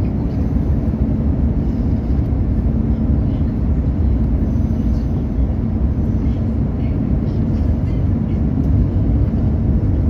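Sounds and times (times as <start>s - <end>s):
airliner engines rumbling: 0.0s - 10.0s
faint steady hum: 0.0s - 10.0s.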